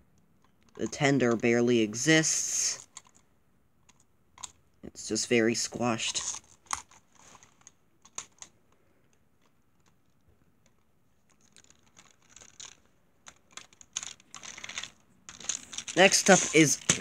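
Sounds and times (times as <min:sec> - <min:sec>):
plastic toys clicking and rattling: 0:00.4 - 0:17.0.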